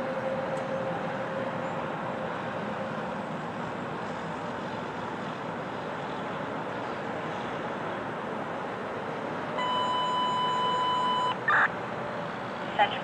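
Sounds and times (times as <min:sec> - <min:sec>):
highway traffic rush: 0:00.0 - 0:13.0.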